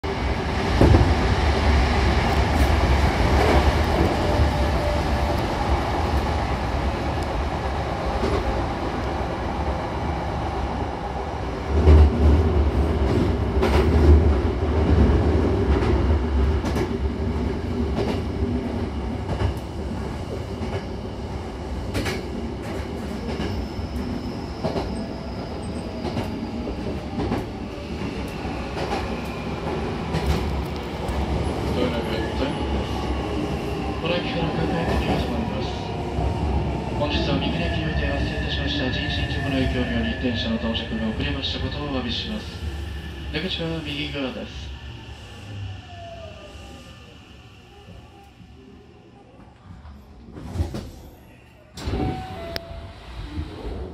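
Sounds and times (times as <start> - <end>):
train wheels rumbling on rails: 0.0 - 10.6, 11.4 - 45.7.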